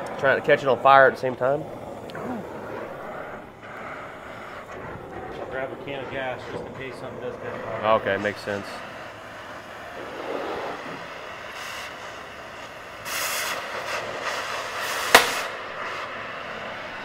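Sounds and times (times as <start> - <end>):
cutting torch hissing: 0.0 - 17.0
sharp crack: 1.2 - 16.2.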